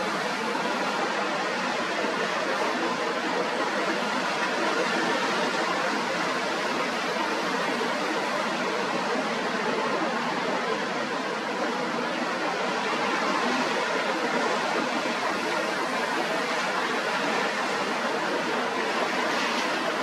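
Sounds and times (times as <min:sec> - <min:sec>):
sea rushing: 0:00.0 - 0:20.0
strong wind: 0:00.0 - 0:20.0.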